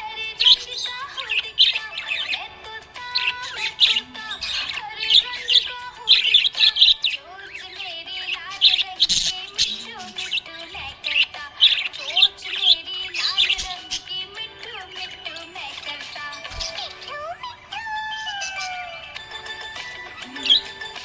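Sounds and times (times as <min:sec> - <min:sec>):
budgie chirping and squawking: 0:00.0 - 0:19.2, 0:19.8 - 0:21.0.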